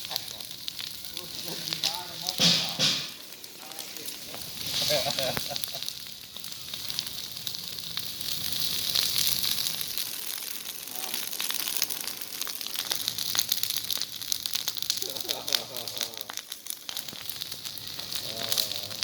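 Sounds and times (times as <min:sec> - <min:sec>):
vegetation fire crackling: 0:00.0 - 0:19.0.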